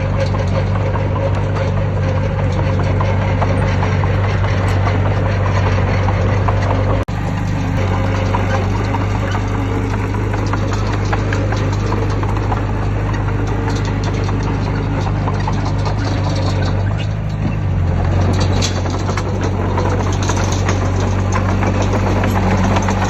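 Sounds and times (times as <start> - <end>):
diesel engine hum: 0.0 - 23.0
metallic clanking and rattling: 0.0 - 23.0.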